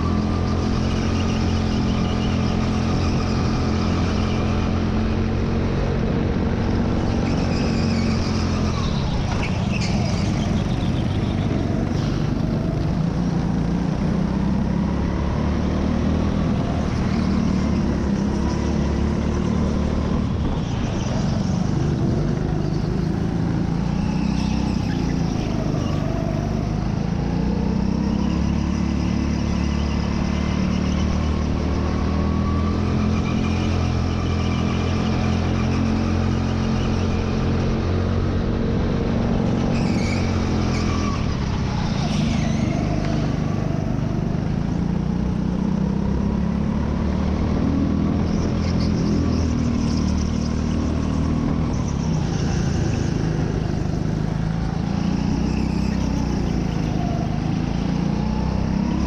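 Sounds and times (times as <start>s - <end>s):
racing kart engine running hard: 0.0s - 59.0s.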